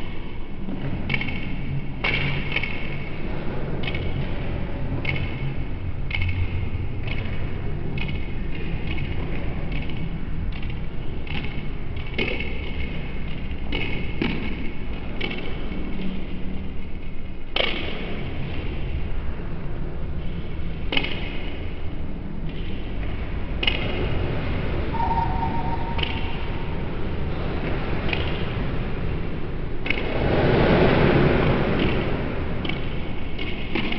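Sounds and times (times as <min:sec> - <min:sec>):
low hall rumble: 0:00.0 - 0:33.9.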